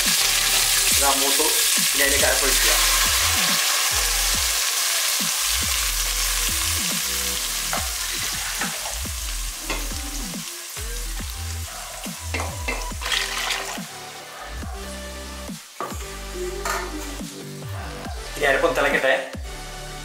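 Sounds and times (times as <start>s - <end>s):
hot oil sizzling: 0.0s - 19.3s.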